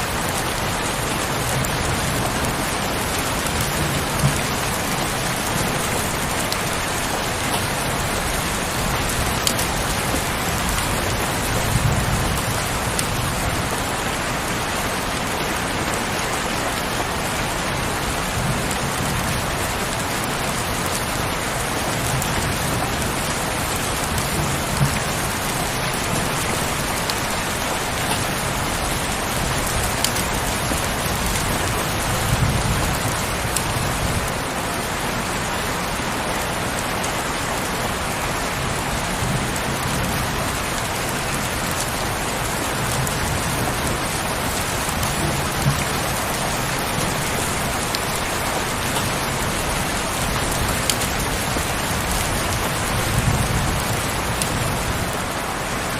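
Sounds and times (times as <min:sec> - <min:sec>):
heavy rain hissing: 0:00.0 - 0:55.9
raindrop hits: 0:00.1 - 0:14.1, 0:17.7 - 0:34.4, 0:39.3 - 0:55.4.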